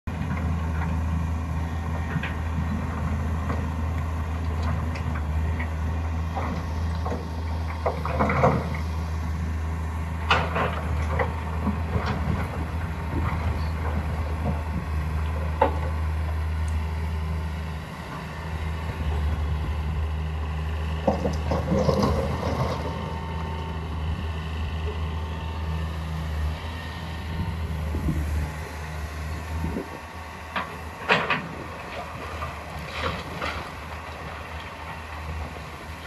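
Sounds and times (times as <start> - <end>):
excavator diesel engine droning: 0.0 - 36.0.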